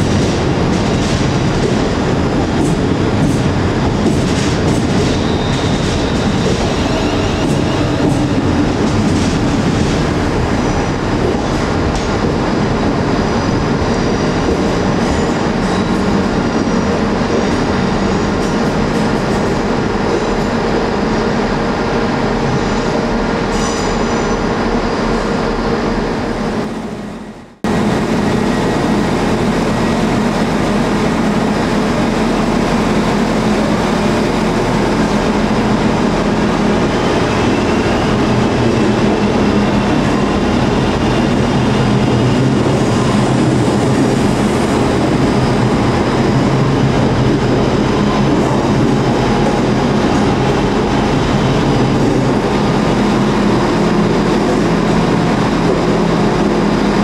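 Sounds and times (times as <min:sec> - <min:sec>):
electric train rumbling: 0:00.0 - 0:57.0.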